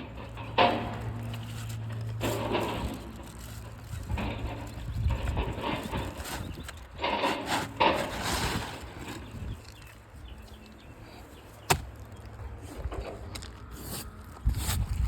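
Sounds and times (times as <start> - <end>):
shingles scraping and rustling: 0.0 - 15.0.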